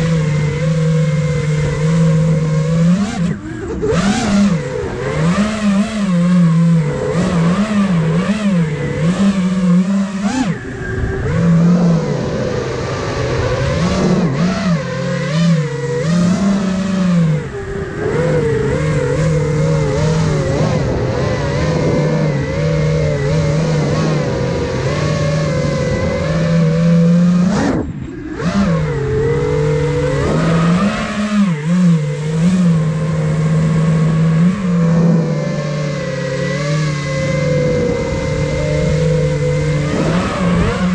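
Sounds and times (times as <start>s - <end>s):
quadcopter motors buzzing whine: 0.0s - 40.9s.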